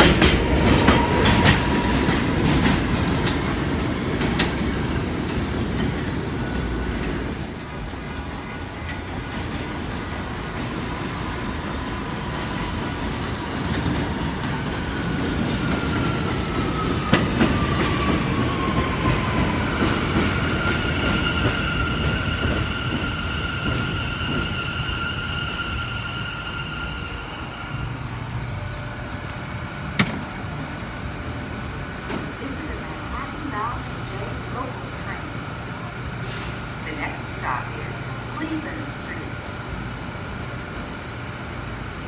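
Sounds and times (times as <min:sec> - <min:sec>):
subway train rumble: 0:00.0 - 0:42.0.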